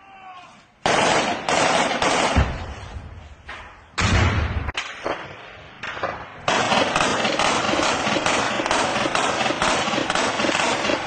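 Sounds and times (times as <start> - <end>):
rapid gunfire crackle: 0.8 - 2.9, 4.0 - 11.0
loud gunshot: 0.9 - 2.9, 4.0 - 11.0.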